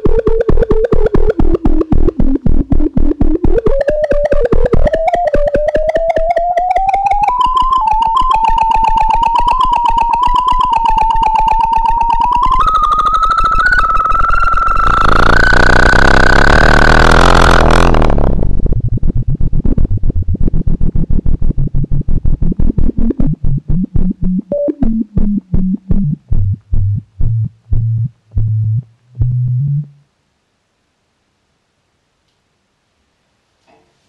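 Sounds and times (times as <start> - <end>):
pulsing low synth notes: 0.0 - 30.0.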